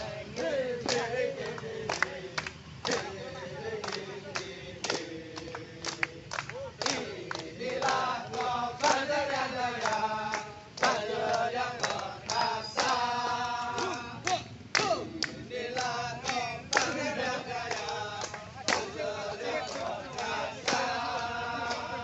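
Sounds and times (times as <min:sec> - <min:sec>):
men singing in chorus: 0:00.0 - 0:22.0
hands clapping: 0:00.2 - 0:22.0.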